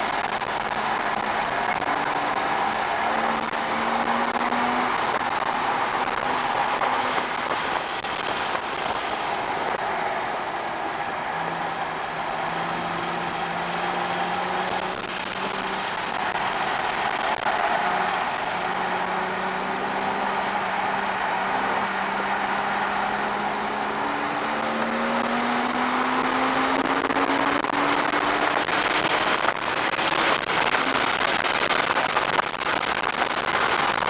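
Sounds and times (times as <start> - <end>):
car engine at speed: 0.0 - 34.0
wind and road noise: 0.0 - 34.0.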